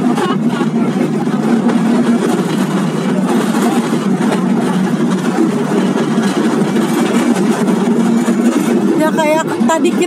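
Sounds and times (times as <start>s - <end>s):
cable car rumbling and rattling: 0.0s - 10.0s.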